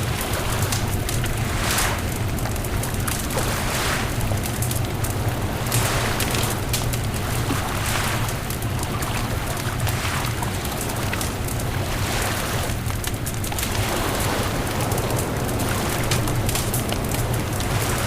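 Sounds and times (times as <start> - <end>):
bonfire crackling and popping: 0.0 - 18.0
surf: 0.0 - 18.0
wind: 0.0 - 18.0.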